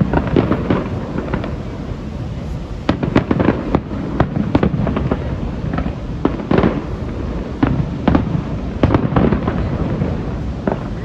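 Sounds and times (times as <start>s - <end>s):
firework shells bursting: 0.0s - 11.0s
rumble of fireworks booms: 0.0s - 11.0s.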